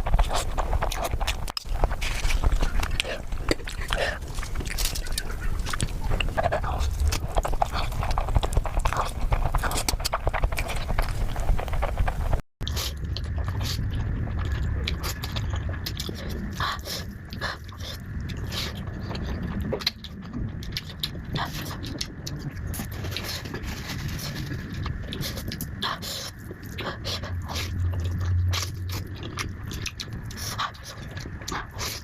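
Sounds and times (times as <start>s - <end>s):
person chewing noodles: 0.0s - 32.0s.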